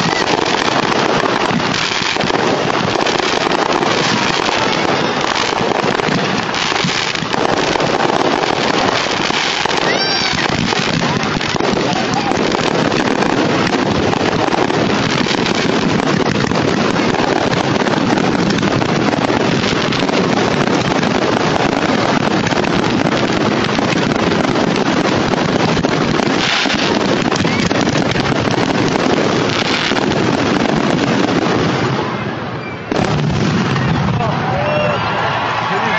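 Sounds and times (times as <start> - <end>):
fireworks barrage rumbling and crackling: 0.0 - 35.9.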